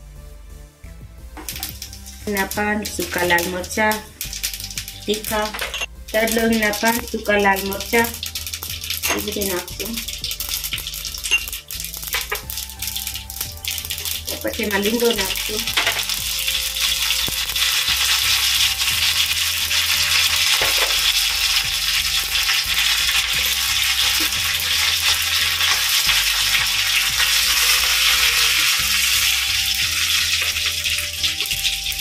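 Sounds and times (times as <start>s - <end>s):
spices sizzling in hot fat: 1.4s - 32.0s.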